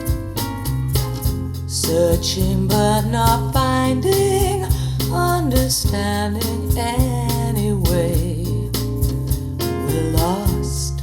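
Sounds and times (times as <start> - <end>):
song with singing bass and percussion: 0.0 - 11.0.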